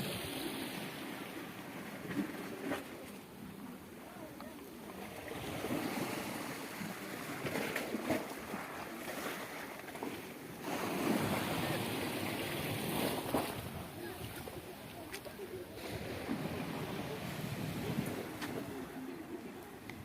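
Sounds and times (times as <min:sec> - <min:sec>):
sea waves breaking on a beach: 0:00.0 - 0:20.0.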